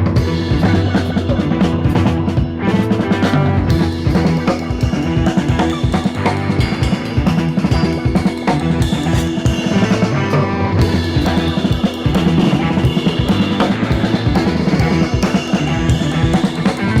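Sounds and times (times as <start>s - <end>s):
rock music with drums: 0.0s - 17.0s.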